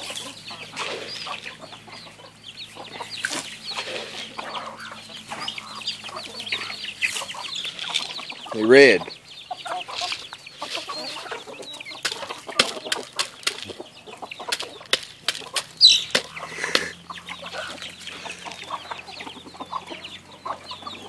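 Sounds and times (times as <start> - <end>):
hens clucking: 0.0 - 21.0
pecking clicks on gravel: 3.0 - 20.0.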